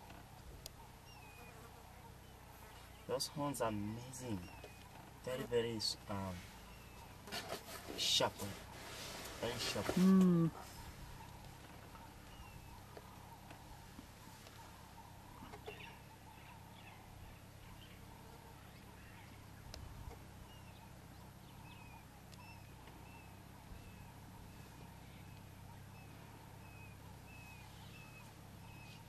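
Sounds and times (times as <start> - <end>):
low steady hum: 0.0 - 29.0
bird chirps: 0.7 - 3.2, 4.0 - 7.2, 10.6 - 29.0.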